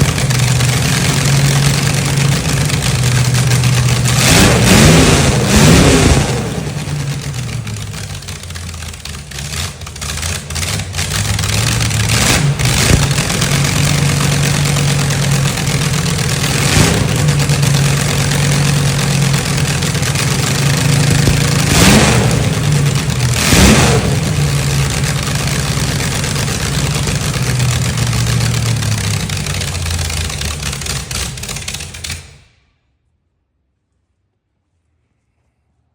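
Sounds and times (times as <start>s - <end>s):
engine idling with throttle blips: 0.0s - 32.4s.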